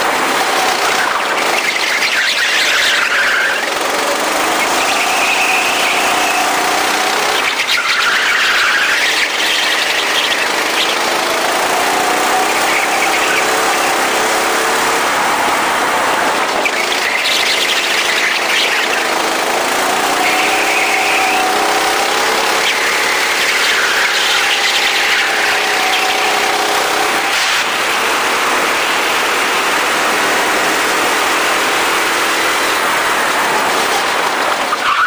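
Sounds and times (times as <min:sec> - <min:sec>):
go-kart engine revving: 0:00.0 - 0:35.0.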